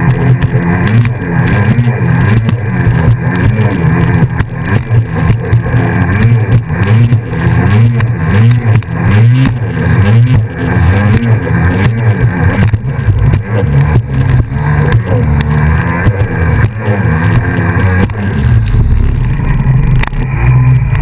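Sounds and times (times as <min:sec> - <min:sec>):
jet ski engine running hard: 0:00.0 - 0:21.0.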